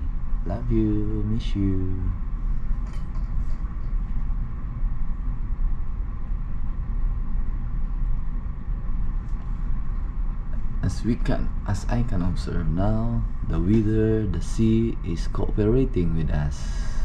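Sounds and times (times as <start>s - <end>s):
ship engine low rumble: 0.0s - 17.0s.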